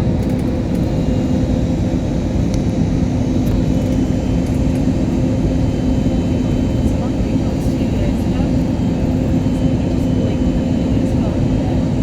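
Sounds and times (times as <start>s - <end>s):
constant low hum: 0.0s - 12.0s
jet engine and airflow rush: 0.0s - 12.0s.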